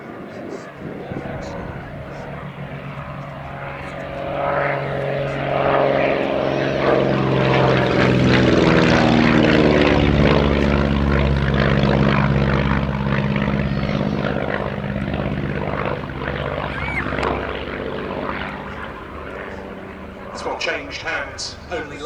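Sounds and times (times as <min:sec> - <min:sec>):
propeller aircraft flying past: 0:00.0 - 0:22.0.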